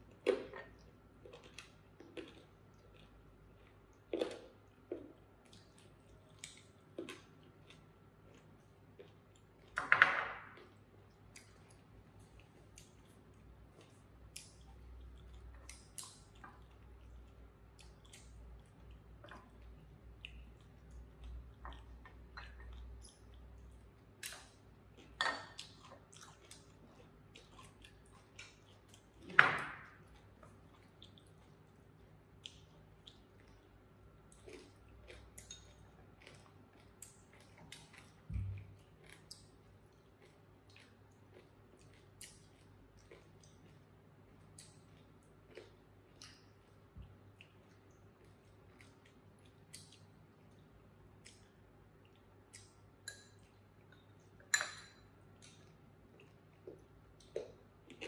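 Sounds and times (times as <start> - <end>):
quiet chewing: 0.0 - 9.8, 10.5 - 54.5, 55.1 - 58.0
faint steady hum: 0.0 - 58.0.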